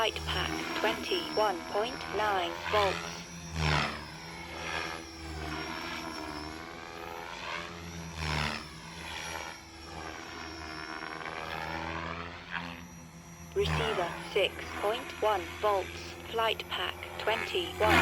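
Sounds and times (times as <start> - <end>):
rc helicopter rotor whine: 0.0 - 18.0
steady high whine: 0.0 - 18.0.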